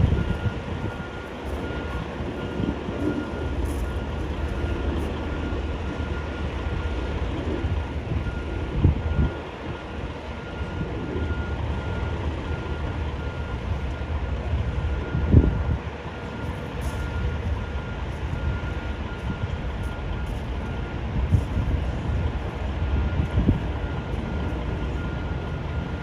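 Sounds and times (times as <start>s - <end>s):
diesel engine running: 0.0s - 26.0s
truck reverse alarm beeping: 0.0s - 26.0s.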